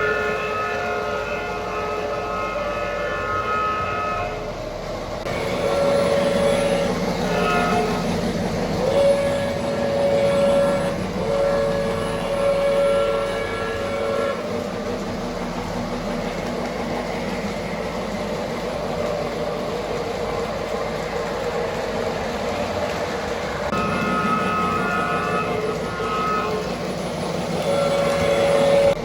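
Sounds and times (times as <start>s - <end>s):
model train horn blasts: 0.0s - 20.9s, 23.6s - 29.0s
model train rumbling on track: 0.0s - 29.0s.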